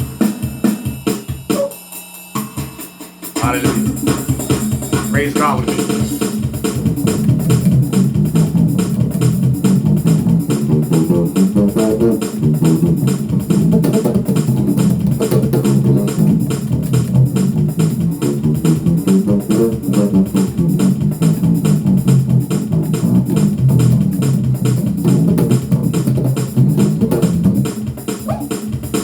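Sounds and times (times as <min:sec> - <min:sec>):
steady drum beat: 0:00.0 - 0:29.0
electric bass guitar groove: 0:03.4 - 0:29.0.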